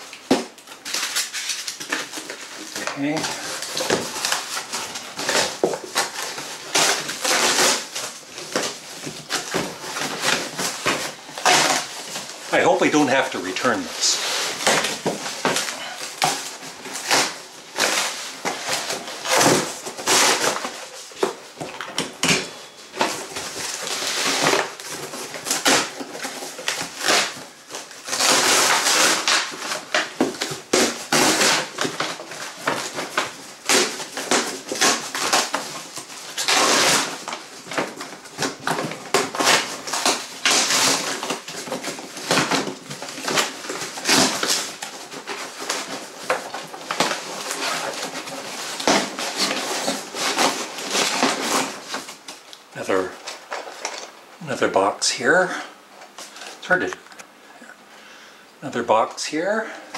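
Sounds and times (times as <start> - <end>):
cardboard box tearing: 0.3 - 53.8.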